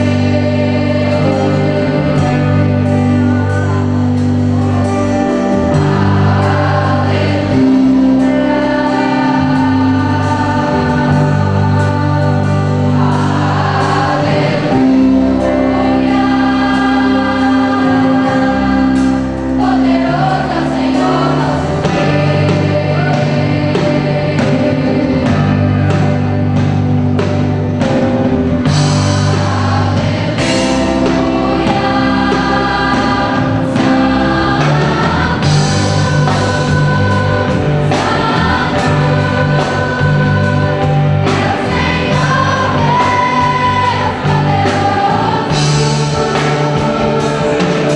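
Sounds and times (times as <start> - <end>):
gospel choir singing with band: 0.0 - 47.9.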